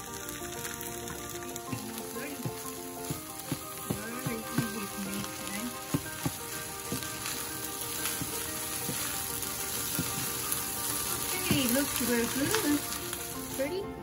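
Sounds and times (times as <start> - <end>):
fried rice sizzling in wok: 0.0 - 14.0
spatula knocking and scraping pan: 1.6 - 13.2.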